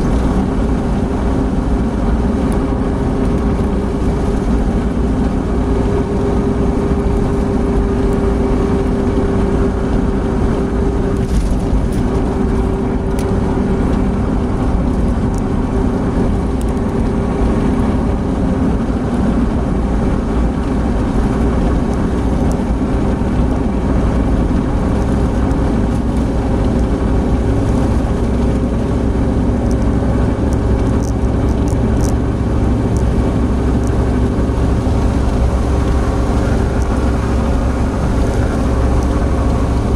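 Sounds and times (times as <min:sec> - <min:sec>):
car engine drone: 0:00.0 - 0:39.9
tyre and wind noise: 0:00.0 - 0:39.9.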